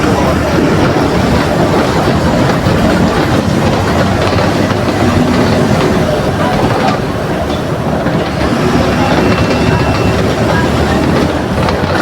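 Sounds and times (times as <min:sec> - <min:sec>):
bus diesel engine running: 0:00.0 - 0:12.0
moving bus noise: 0:00.0 - 0:12.0.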